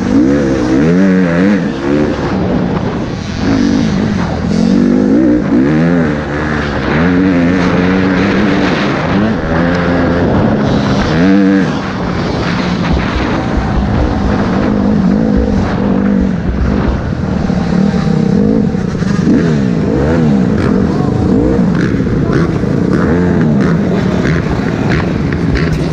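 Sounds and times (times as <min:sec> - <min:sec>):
motocross bike engines revving: 0:00.0 - 0:25.9.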